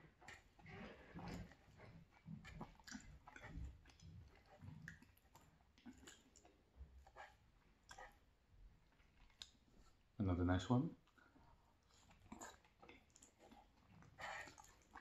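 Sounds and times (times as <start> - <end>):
faint chewing of pasta: 0.0 - 15.0.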